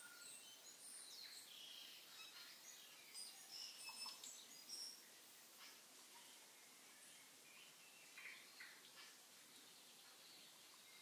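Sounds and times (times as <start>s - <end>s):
faint birdsong: 0.0s - 11.0s
soft steady hiss: 0.0s - 11.0s.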